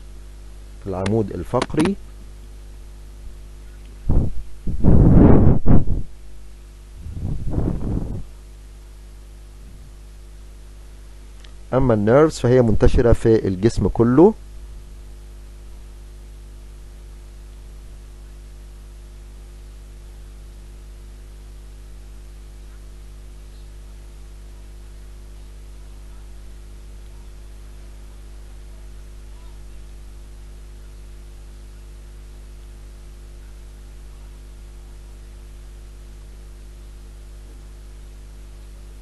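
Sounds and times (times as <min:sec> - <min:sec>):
constant hiss: 0:00.0 - 0:39.0
electrical hum: 0:00.0 - 0:39.0.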